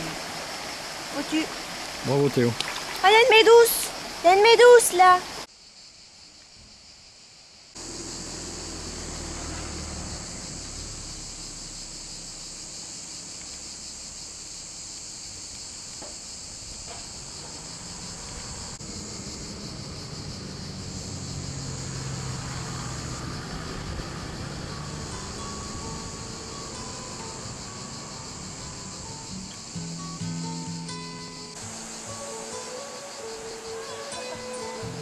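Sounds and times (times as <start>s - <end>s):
cicadas shrilling: 0.0s - 35.0s.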